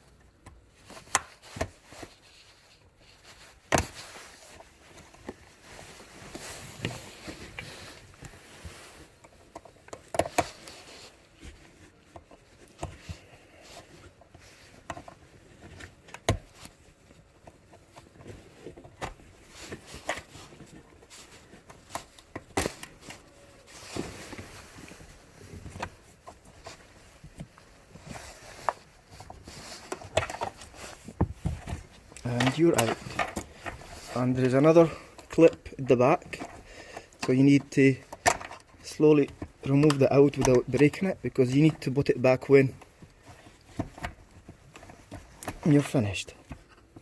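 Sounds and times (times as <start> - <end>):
handling noise: 0.2 - 47.0.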